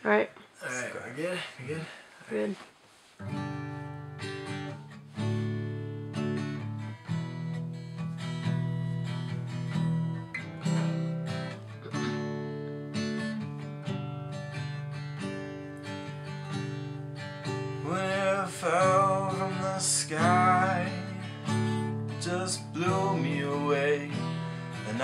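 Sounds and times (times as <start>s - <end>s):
acoustic guitar strumming chords: 3.2s - 25.0s.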